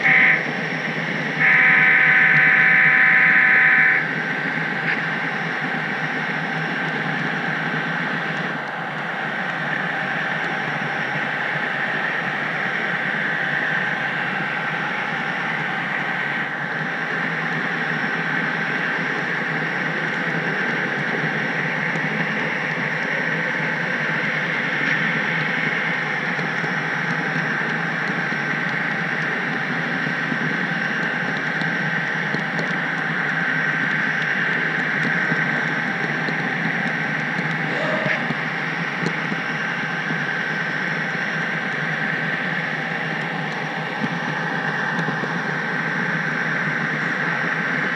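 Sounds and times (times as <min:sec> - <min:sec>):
model train rolling on track: 0:00.0 - 0:47.9.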